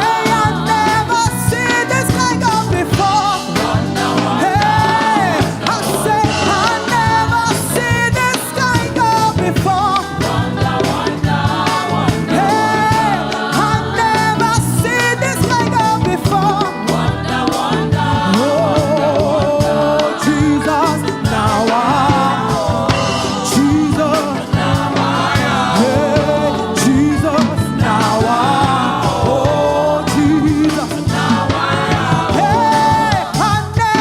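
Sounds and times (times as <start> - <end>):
band with drums: 0.0 - 34.0
person singing with vibrato: 0.0 - 34.0.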